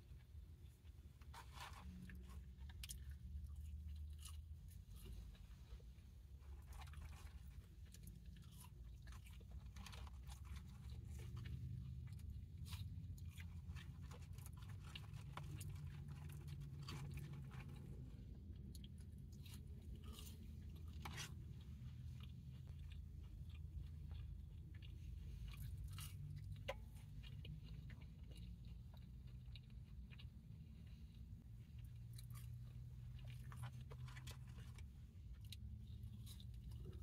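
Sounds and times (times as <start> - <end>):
chewing and crunching food: 0.0 - 37.0.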